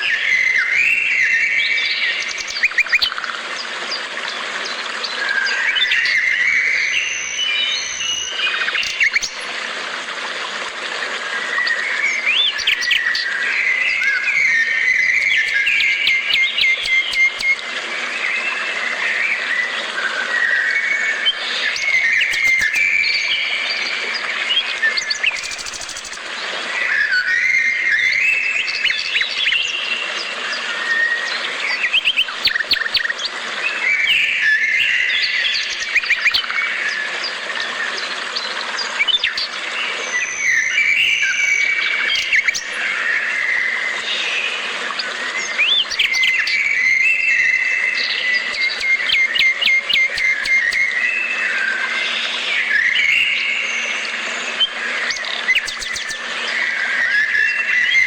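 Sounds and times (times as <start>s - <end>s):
songbirds chirping and whistling: 0.0s - 9.5s, 11.4s - 58.0s.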